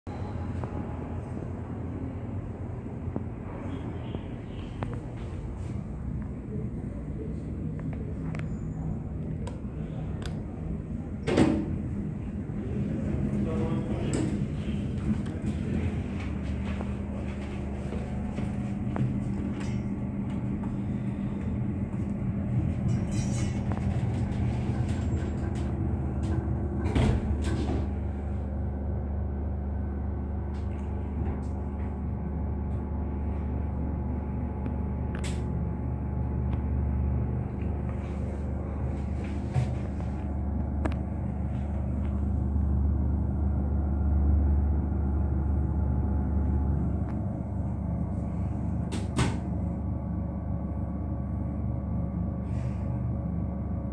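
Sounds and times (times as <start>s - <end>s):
elevator machine hum: 0.1s - 53.9s.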